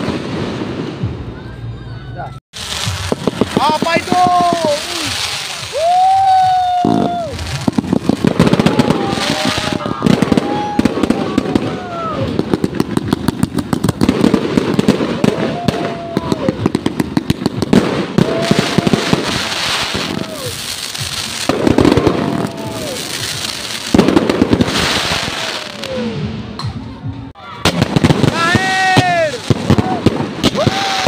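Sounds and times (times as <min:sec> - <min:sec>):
fireworks bangs and crackles: 0:00.0 - 0:01.8, 0:02.5 - 0:31.0.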